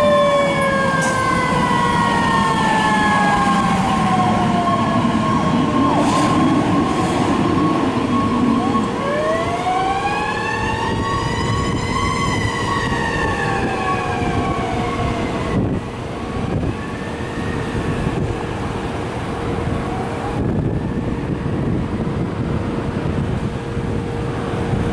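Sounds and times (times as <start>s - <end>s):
road traffic hiss: 0.0s - 11.7s, 14.4s - 24.9s
fire engine siren wailing: 0.0s - 24.9s.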